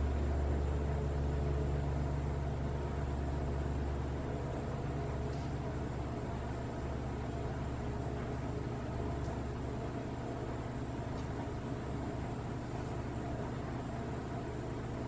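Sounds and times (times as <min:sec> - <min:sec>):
low machine hum with hiss: 0:00.0 - 0:15.0.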